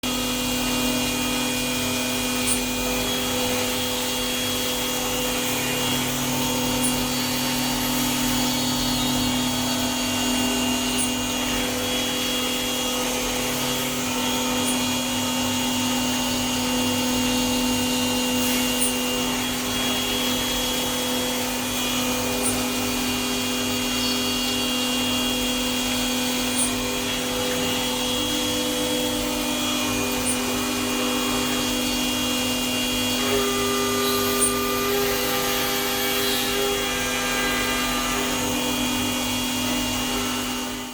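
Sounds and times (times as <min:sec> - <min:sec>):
machine tool hum and whine: 0:00.0 - 0:40.9.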